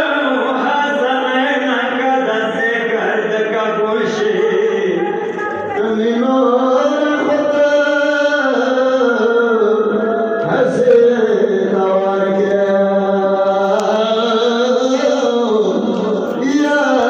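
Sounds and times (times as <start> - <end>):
person chanting a lament: 0.0 - 17.0.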